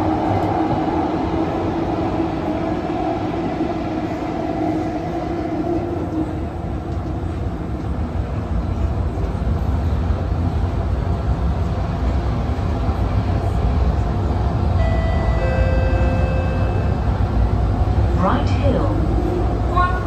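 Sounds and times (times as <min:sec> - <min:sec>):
electric train rumbling inside car: 0:00.0 - 0:20.0.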